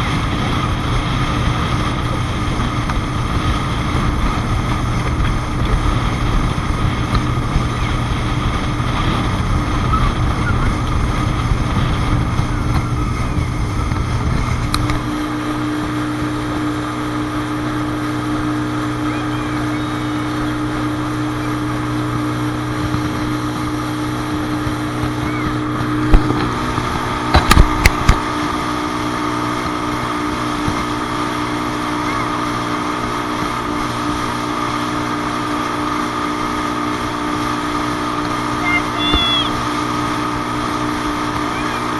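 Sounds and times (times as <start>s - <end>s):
low rumble: 0.0s - 41.7s.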